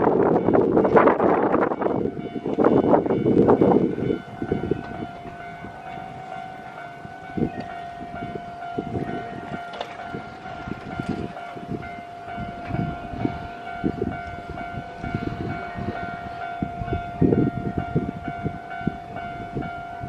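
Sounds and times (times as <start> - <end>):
level crossing alarm ringing: 0.0 - 20.0.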